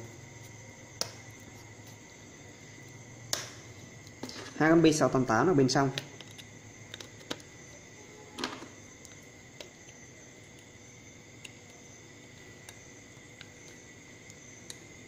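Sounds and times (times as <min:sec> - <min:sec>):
faint high hum: 0:00.0 - 0:15.0.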